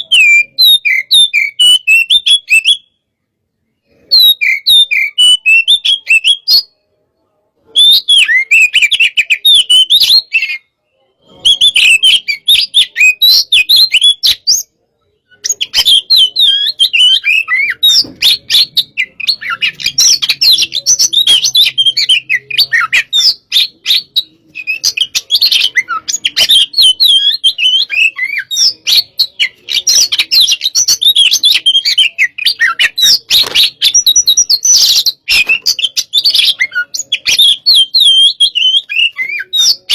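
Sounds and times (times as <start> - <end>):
bird singing whistles and chirps: 0.0 - 3.0, 3.8 - 6.8, 7.7 - 39.9.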